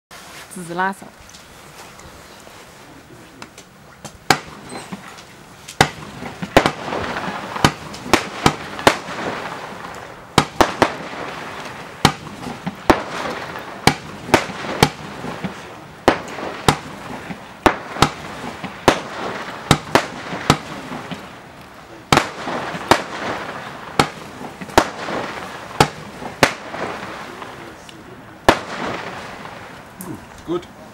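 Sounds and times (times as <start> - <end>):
firework battery popping: 3.4 - 30.1.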